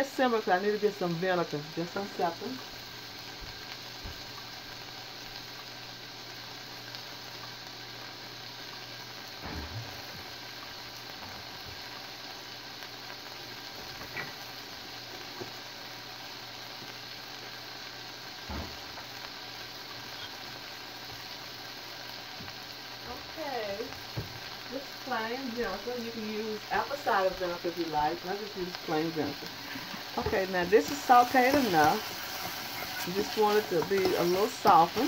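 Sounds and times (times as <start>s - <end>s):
vegetables sizzling in oil: 0.0s - 35.0s.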